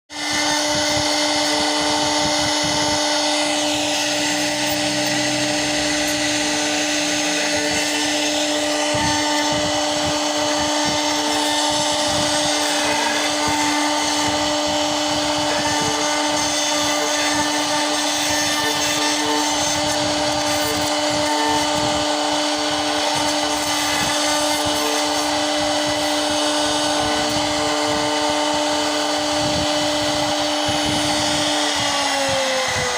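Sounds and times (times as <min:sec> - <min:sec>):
router spindle whine: 0:00.1 - 0:32.9.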